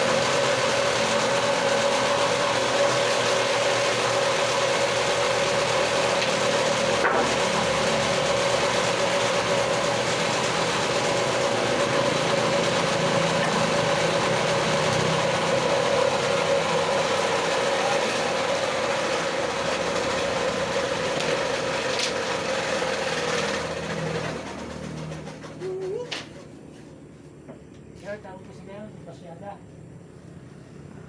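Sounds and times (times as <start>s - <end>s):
power tool cutting wood: 0.0s - 25.6s.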